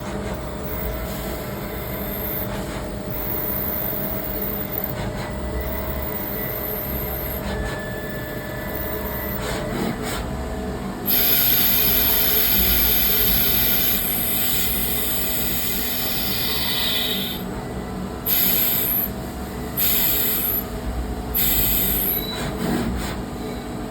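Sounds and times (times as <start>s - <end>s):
lathe humming and whining: 0.0s - 23.9s.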